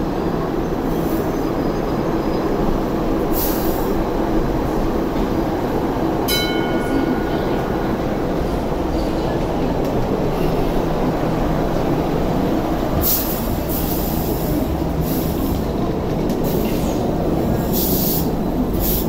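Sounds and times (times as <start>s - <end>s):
light rail wheels rumbling: 0.0s - 19.0s.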